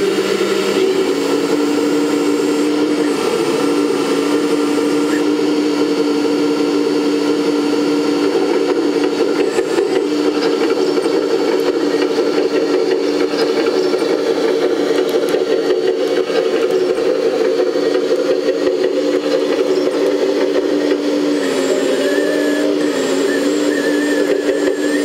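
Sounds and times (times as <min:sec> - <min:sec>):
hydraulic pump whining: 0:00.0 - 0:25.0.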